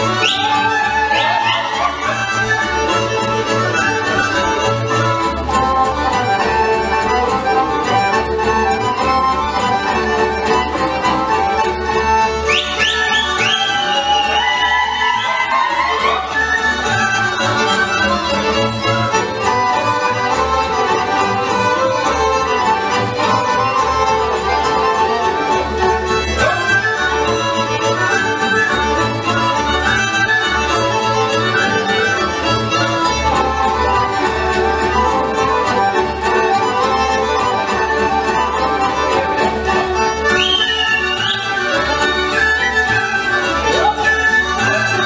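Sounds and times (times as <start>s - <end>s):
accordion: 0.0s - 45.0s
folk dance music: 0.0s - 45.0s
violin: 0.0s - 45.0s.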